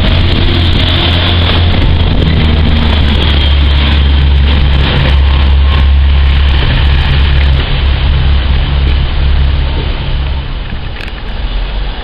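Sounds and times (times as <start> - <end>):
train diesel engines droning: 0.0 - 12.0.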